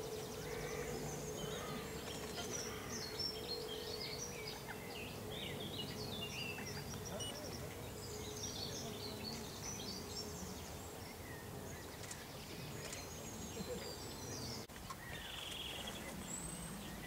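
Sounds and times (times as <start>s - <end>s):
small birds singing: 0.0s - 17.0s.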